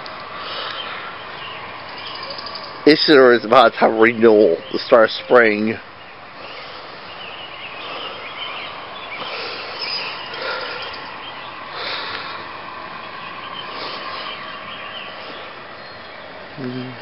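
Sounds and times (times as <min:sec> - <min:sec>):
birds chirping: 0:00.0 - 0:17.0
outdoor ambience hiss: 0:00.0 - 0:17.0.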